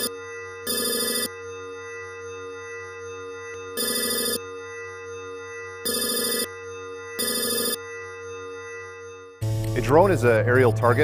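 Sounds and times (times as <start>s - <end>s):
electronic trills: 0.0s - 11.0s
steady electronic drone: 0.0s - 11.0s.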